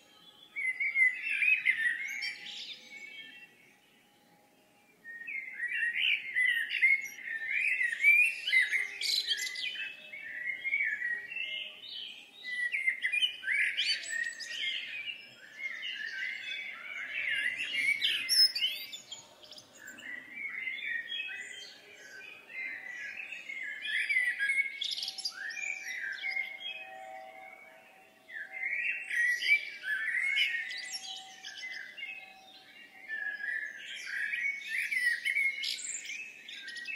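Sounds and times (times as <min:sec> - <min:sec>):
birds chirping and twittering: 0:00.0 - 0:36.9.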